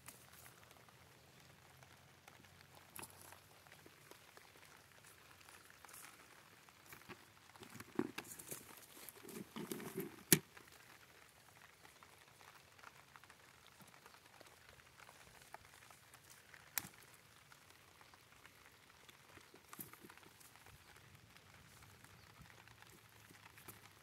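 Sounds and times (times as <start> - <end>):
rain pattering on plastic: 0.0 - 24.0
rustle: 0.0 - 24.0.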